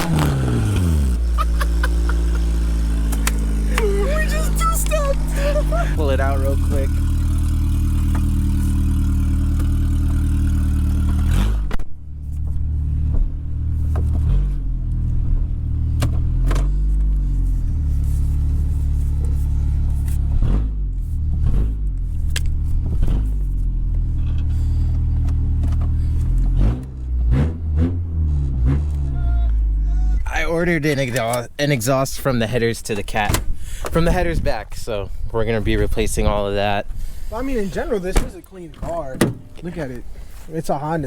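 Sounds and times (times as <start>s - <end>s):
car engine idling: 0.0s - 27.3s, 28.9s - 41.0s.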